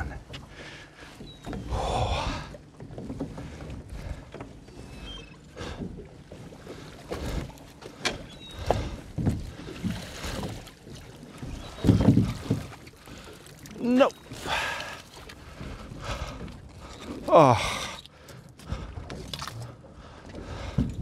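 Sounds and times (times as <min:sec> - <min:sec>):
boat and water wash: 0:00.0 - 0:21.0.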